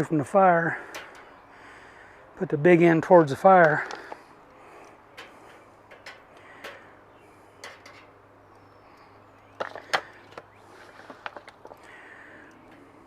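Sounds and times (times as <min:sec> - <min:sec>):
clicks on metal grill grate: 0:00.0 - 0:01.5, 0:02.9 - 0:13.0
faint steady hum: 0:00.0 - 0:13.0.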